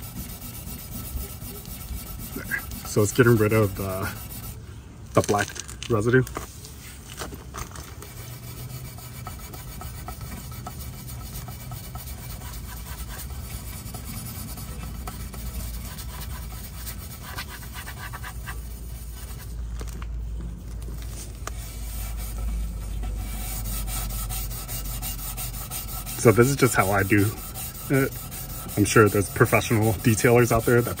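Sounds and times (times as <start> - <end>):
steel wool scrubbing metal: 0.0 - 4.6, 8.1 - 19.4, 21.6 - 31.0.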